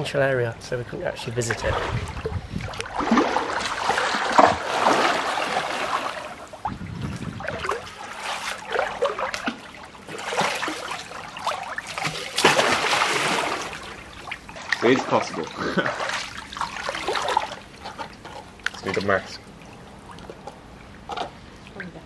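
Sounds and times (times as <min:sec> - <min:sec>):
sea water washing and splashing: 0:01.3 - 0:22.0.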